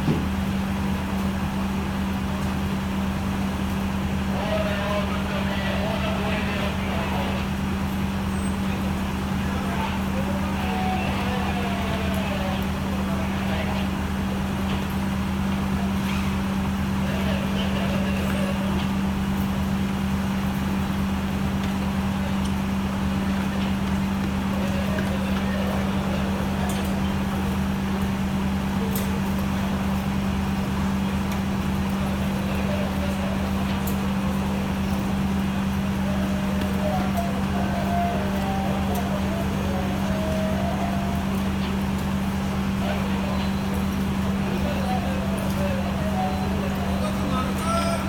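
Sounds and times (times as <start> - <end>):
fire engine humming: 0.0 - 48.0
faint voices: 2.1 - 48.0.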